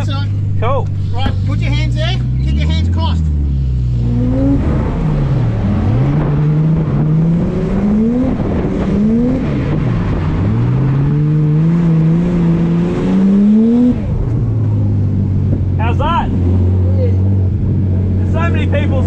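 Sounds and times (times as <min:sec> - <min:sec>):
car engine revving hard: 0:00.9 - 0:19.0.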